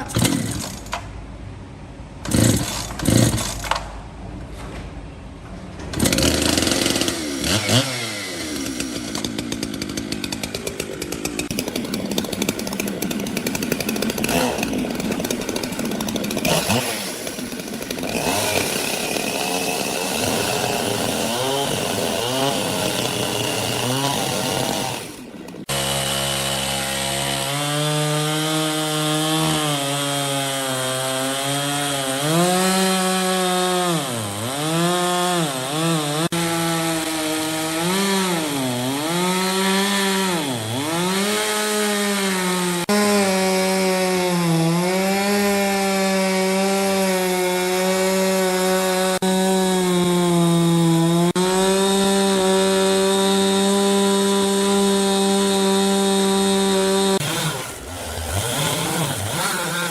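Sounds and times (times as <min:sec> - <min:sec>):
power saw cutting wood: 0:00.0 - 0:01.0, 0:05.9 - 0:59.9.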